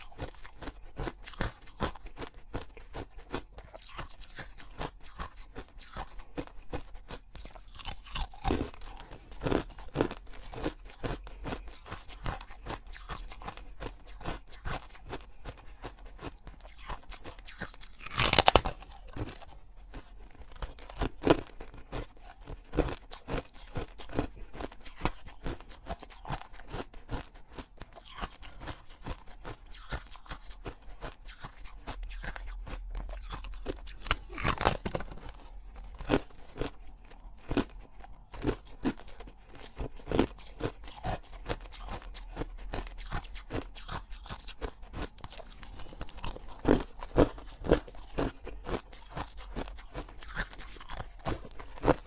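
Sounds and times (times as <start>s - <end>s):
person crunching and chewing: 0.0s - 52.0s.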